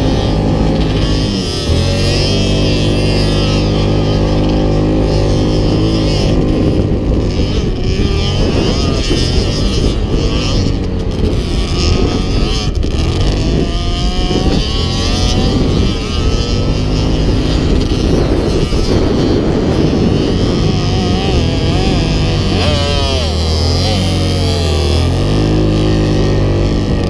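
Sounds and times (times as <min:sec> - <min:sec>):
vehicle engines revving: 0:00.0 - 0:27.0.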